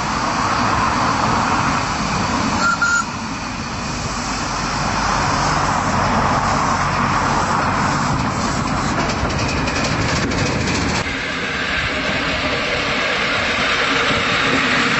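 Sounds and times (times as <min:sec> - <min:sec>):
steam locomotive hissing: 0:00.0 - 0:14.9.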